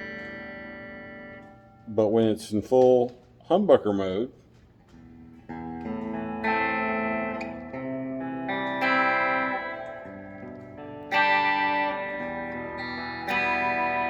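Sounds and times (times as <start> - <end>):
electric guitar chords ringing: 0.0 - 2.3, 4.9 - 14.0.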